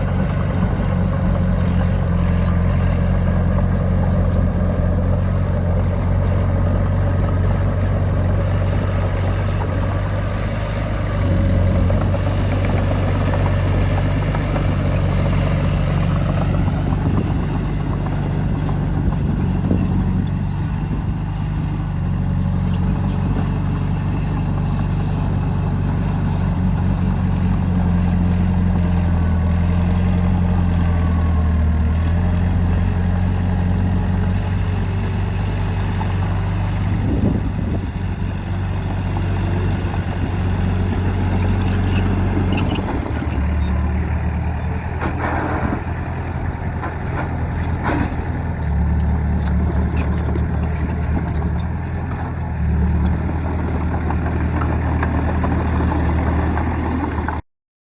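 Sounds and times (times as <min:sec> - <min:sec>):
diesel engine running: 0:00.0 - 0:57.4.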